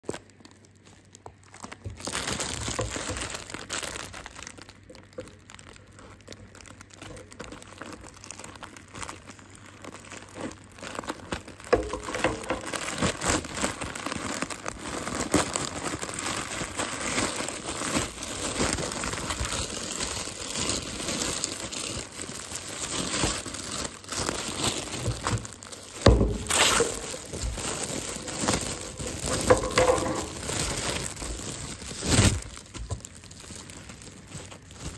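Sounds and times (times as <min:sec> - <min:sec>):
plastic mailer crinkling and tearing: 0:00.0 - 0:34.9.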